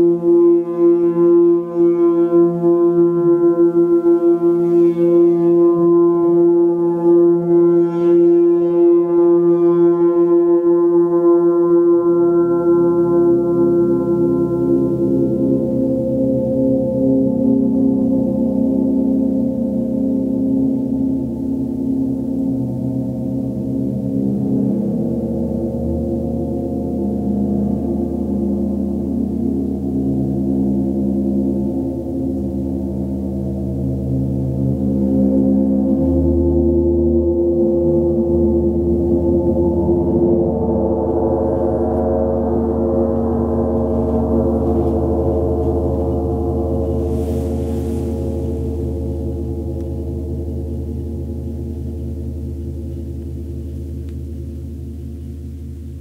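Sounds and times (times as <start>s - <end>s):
gong humming: 10.0s - 55.8s.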